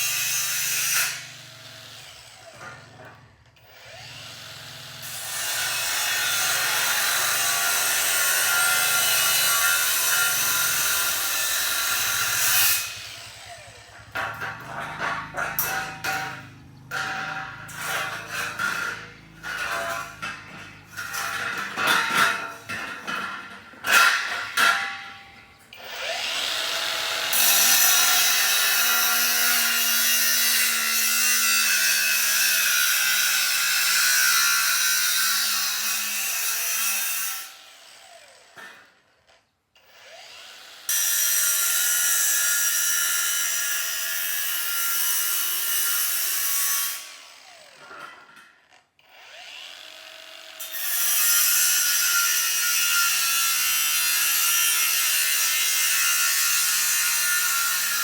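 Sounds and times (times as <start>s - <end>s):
power tool grinding metal: 0.0s - 39.0s, 39.8s - 58.0s.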